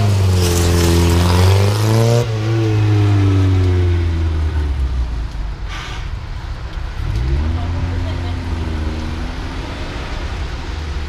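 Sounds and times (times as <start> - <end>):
car engine revving: 0.0 - 5.1, 6.9 - 11.0.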